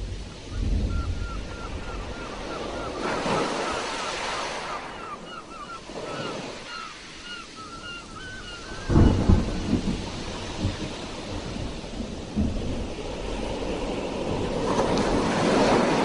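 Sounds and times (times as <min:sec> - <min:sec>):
sea waves breaking on shore: 0:00.0 - 0:16.0.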